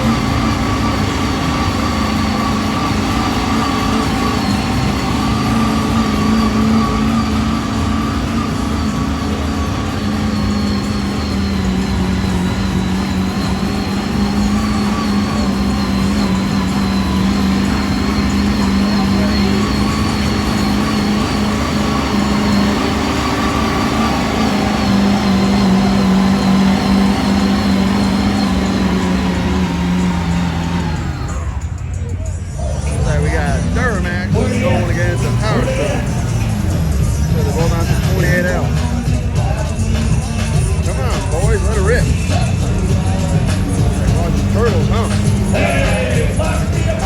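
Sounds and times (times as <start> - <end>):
large vehicle engine droning: 0.0 - 47.0.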